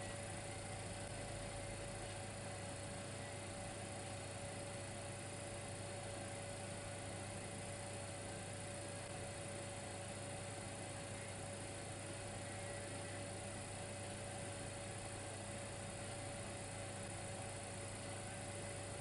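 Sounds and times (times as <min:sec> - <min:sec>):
electric heater humming: 0:00.0 - 0:19.0.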